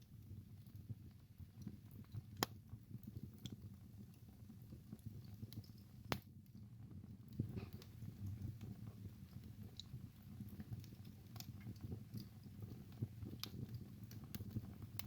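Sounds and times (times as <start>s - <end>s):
wood fire rumbling and crackling: 0.0s - 15.0s.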